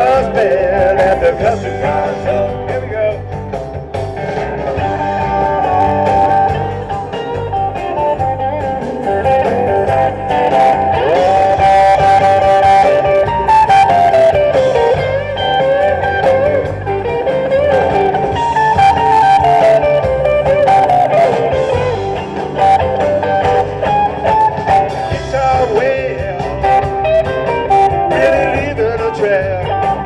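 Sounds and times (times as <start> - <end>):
bass and drums: 0.0 - 30.0
lead guitar solo: 0.0 - 30.0.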